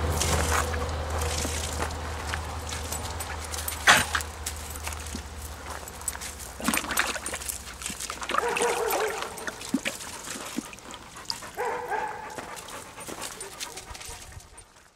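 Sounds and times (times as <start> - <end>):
dog lapping and splashing water: 0.0 - 14.9.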